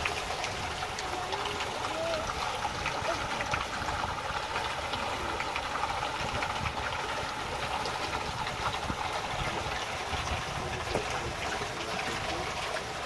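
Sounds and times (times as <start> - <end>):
water rushing past hull: 0.0 - 13.0.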